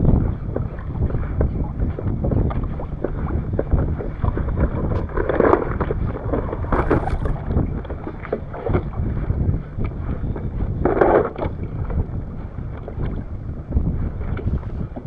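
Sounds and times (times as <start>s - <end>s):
water lapping: 0.0s - 15.0s
wind rumbling on microphone: 0.0s - 15.0s.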